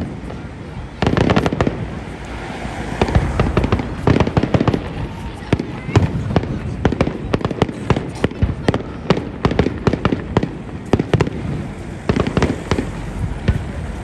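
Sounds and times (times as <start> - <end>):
fireworks bangs and crackling pops: 0.0 - 14.0.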